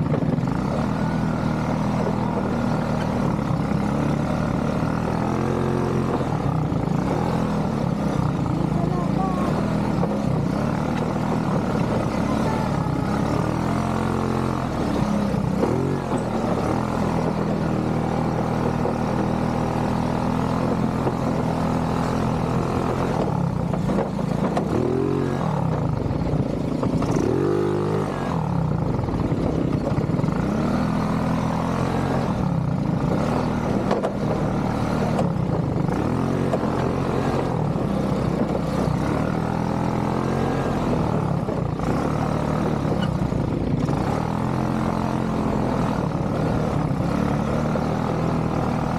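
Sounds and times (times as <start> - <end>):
atv engine revving: 0.0 - 48.9.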